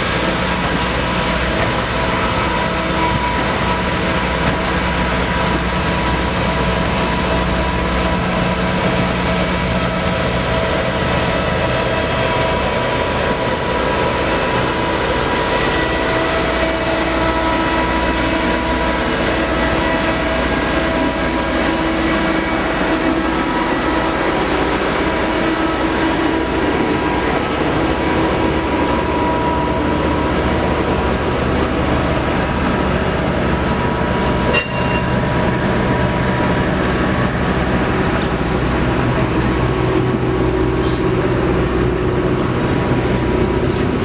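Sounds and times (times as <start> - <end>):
train rumbling: 0.0 - 44.0.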